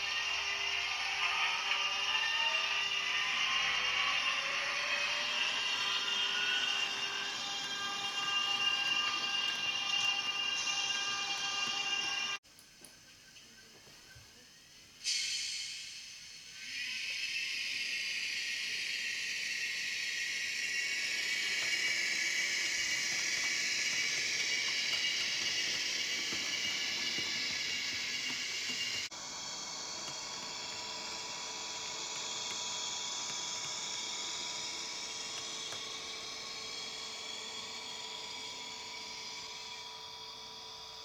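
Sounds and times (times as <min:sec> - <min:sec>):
locomotive sound decoder hissing: 0:00.0 - 0:12.4, 0:13.6 - 0:41.0.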